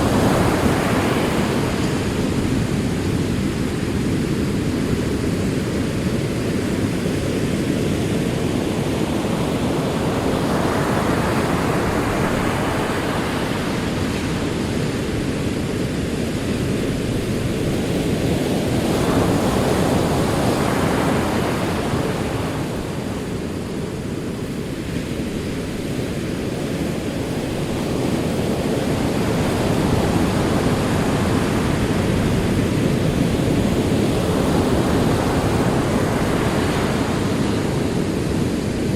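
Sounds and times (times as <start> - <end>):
ocean waves rolling in: 0.0 - 38.9.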